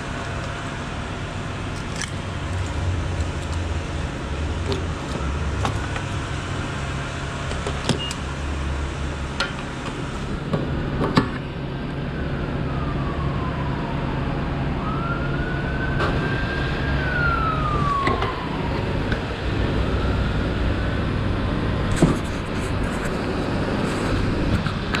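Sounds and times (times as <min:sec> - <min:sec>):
emergency siren wailing: 0:00.0 - 0:07.6, 0:11.6 - 0:25.0
low traffic rumble: 0:00.0 - 0:25.0.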